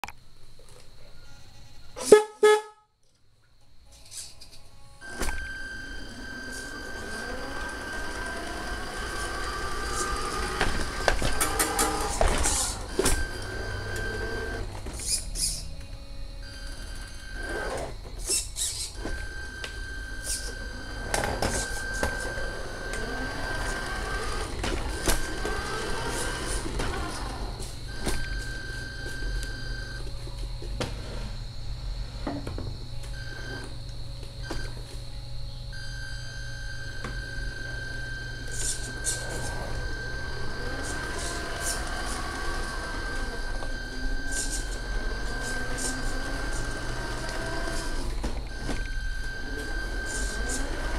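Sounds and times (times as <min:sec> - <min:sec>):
model truck low hum: 0:04.8 - 0:50.9
electric motor whining: 0:05.0 - 0:50.9.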